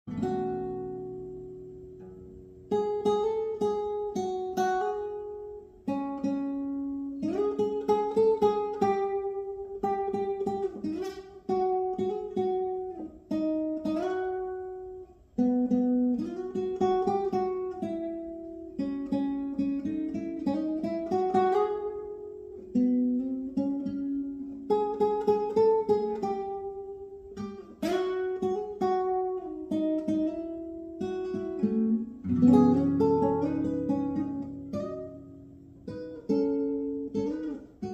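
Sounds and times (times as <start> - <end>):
acoustic guitar strumming: 0.1 - 37.9.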